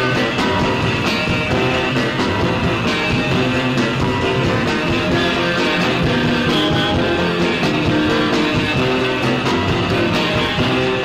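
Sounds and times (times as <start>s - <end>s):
rock music with guitar: 0.0s - 11.0s.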